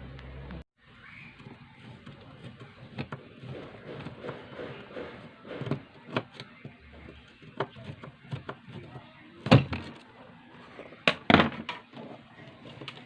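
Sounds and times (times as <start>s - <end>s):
hard objects clicking and knocking: 1.4s - 10.1s, 11.0s - 13.0s.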